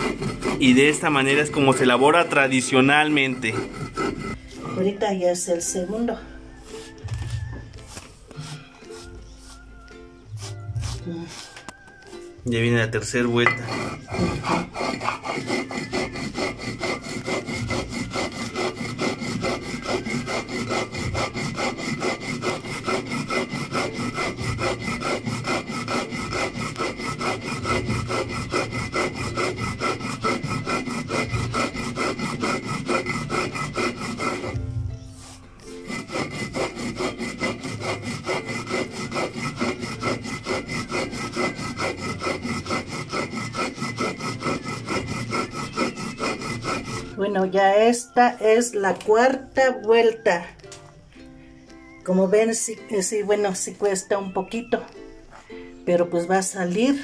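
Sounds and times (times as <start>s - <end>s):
stone roller grinding corn on stone: 0.0s - 6.1s, 10.3s - 50.6s, 55.9s - 57.0s.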